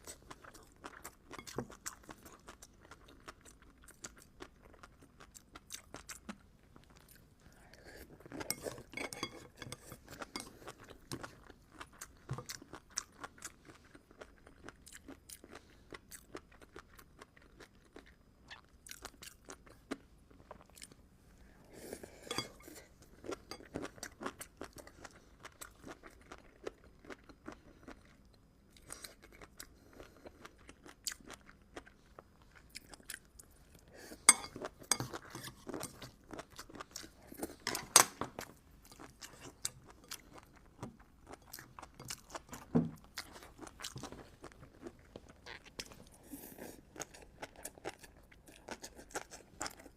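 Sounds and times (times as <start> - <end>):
wet chewing and crunching: 0.0 - 21.0, 22.3 - 49.9.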